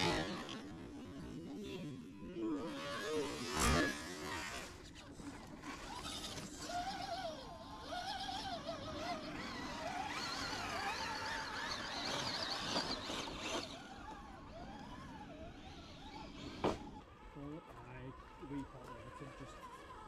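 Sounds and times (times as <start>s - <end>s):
electric motor and gearbox whining: 0.0s - 20.0s.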